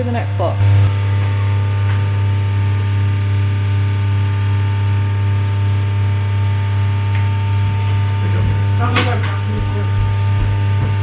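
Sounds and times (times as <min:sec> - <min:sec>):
buzzy electrical hum: 0:00.0 - 0:11.0.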